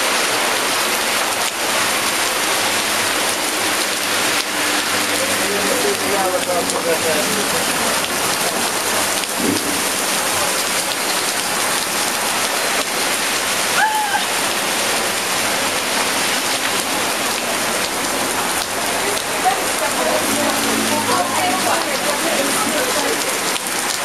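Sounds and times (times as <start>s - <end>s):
heavy rain on pavement: 0.0s - 24.0s.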